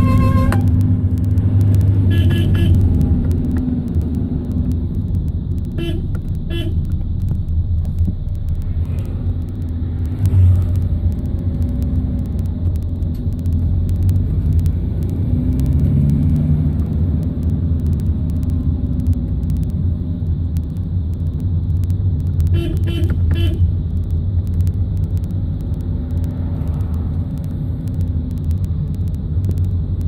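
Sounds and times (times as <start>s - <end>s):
van engine and road noise: 0.0s - 30.0s.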